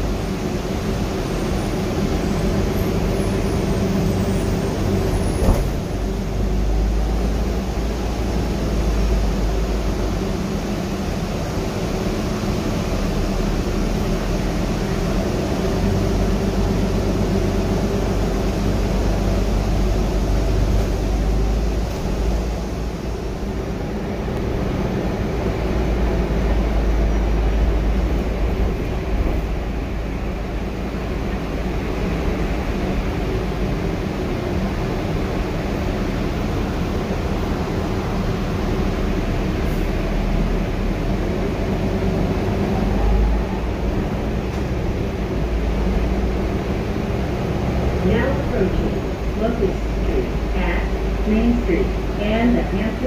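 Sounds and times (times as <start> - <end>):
bus drivetrain hum: 0.0 - 53.0
low road rumble: 0.0 - 53.0.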